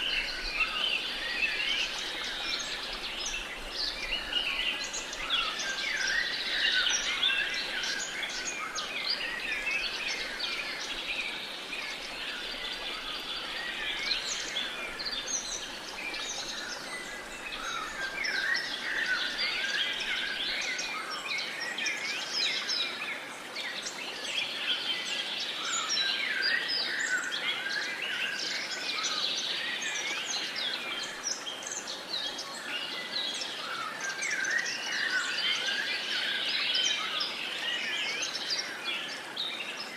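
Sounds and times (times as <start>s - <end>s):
many birds chirping and singing: 0.0s - 39.9s.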